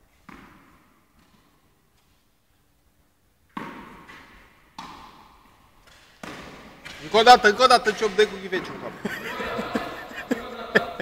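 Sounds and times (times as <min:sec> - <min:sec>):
tennis ball impacts echoing: 0:00.2 - 0:01.7, 0:03.5 - 0:11.0.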